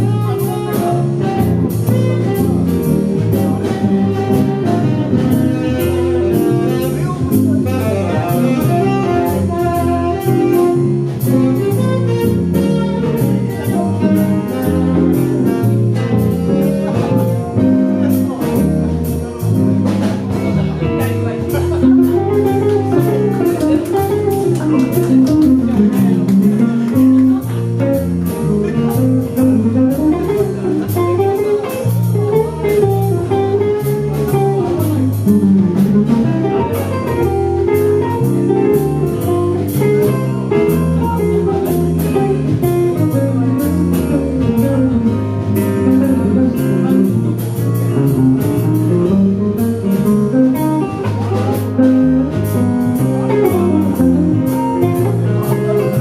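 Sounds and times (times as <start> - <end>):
drums on cymbals: 0.0 - 25.2, 26.4 - 56.0
electric guitar melody: 0.0 - 56.0
walking bass: 0.0 - 56.0.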